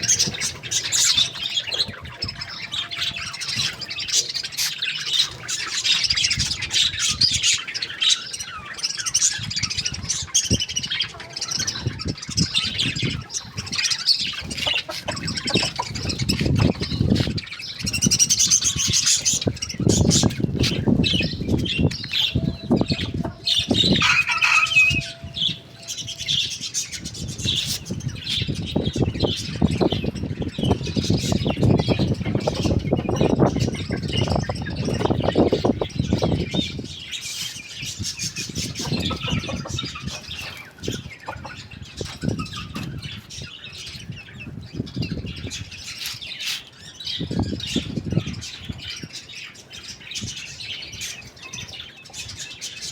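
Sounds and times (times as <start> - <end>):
birds chirping and squawking: 0.0 - 52.9.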